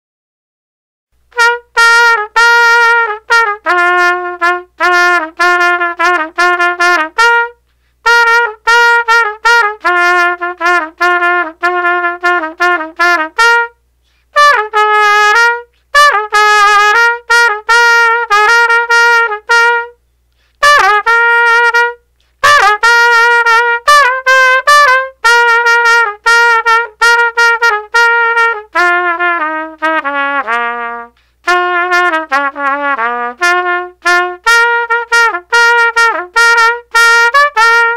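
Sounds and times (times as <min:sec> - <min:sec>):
trumpet-like melody: 0:01.2 - 0:37.9.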